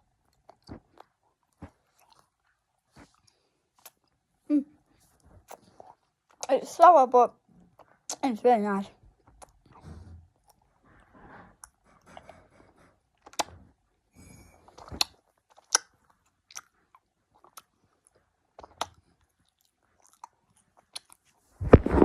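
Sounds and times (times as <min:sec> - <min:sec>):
child chewing: 0:00.0 - 0:06.6, 0:09.0 - 0:22.0.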